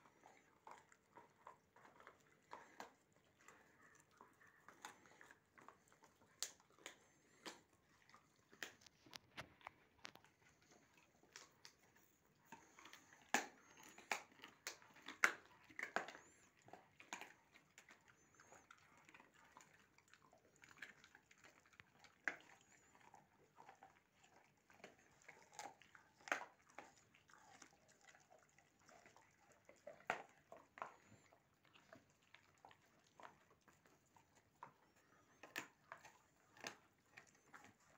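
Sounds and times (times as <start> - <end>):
puppies gnawing bones: 0.0 - 37.9.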